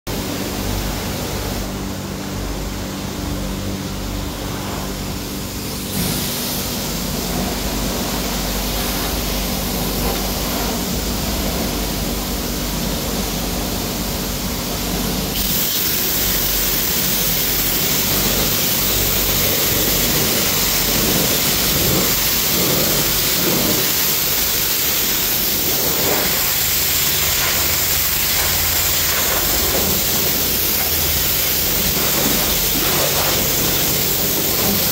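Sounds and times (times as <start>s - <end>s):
low machine hum: 0.1s - 34.9s
pressure washer spraying: 4.5s - 34.9s.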